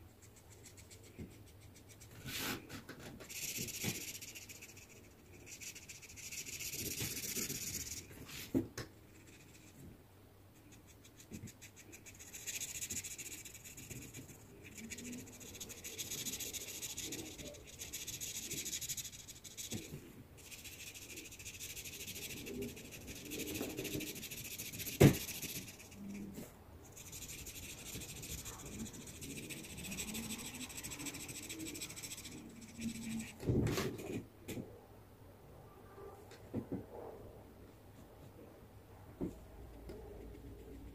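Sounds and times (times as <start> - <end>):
marker scratching on paper: 0.0 - 9.8, 10.6 - 34.2.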